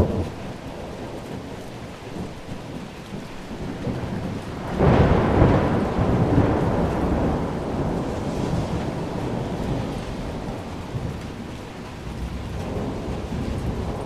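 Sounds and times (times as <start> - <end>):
steady rain: 0.0 - 14.0
thunder rolling: 0.0 - 14.0.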